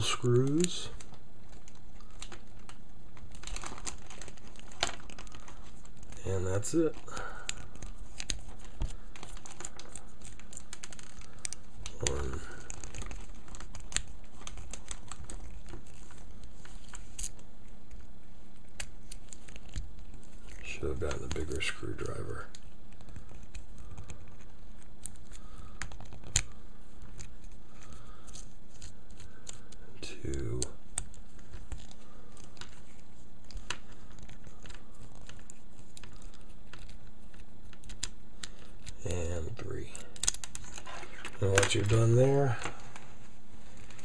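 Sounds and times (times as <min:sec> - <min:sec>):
plastic figure being handled: 0:00.0 - 0:44.0
steady low hum: 0:00.0 - 0:44.0.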